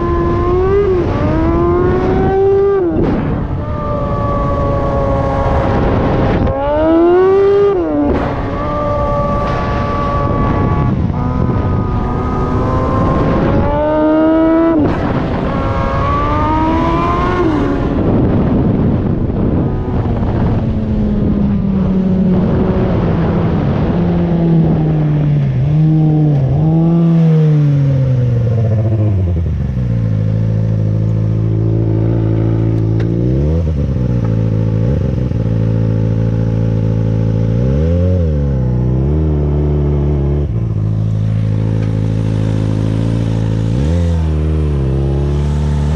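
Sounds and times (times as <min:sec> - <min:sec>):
engine revving: 0:00.0 - 0:45.9.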